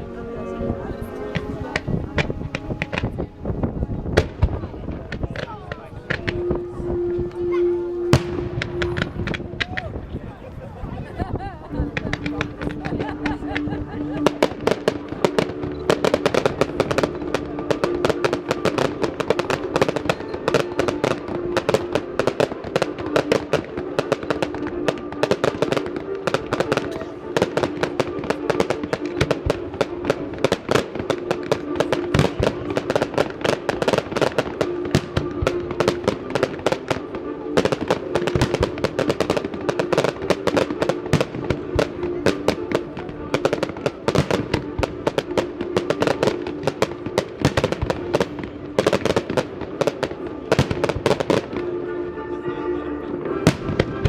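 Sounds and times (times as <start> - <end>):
held musical tones: 0.0 - 54.0
fireworks crackling and banging: 0.6 - 54.0.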